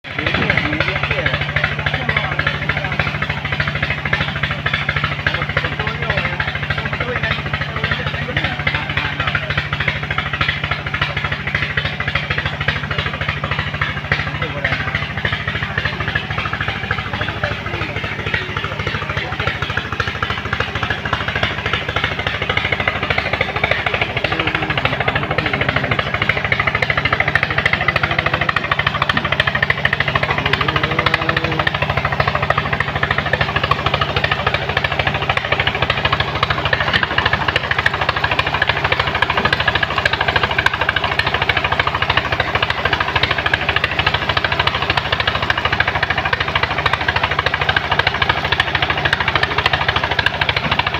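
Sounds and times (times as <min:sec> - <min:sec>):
truck engine clattering: 0:00.0 - 0:50.9.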